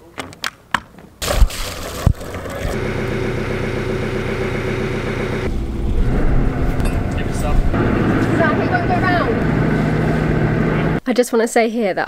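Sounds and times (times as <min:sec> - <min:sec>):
boat engine starting and running: 0:01.2 - 0:11.0.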